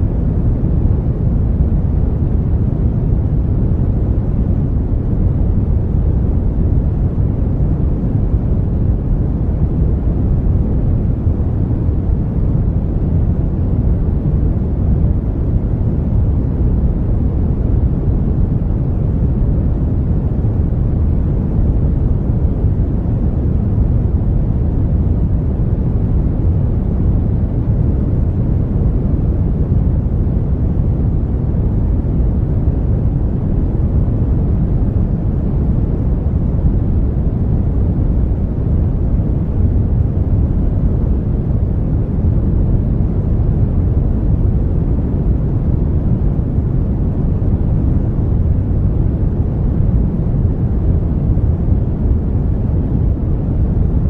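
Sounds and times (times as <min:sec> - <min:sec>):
deep rushing brown noise: 0:00.0 - 0:54.0.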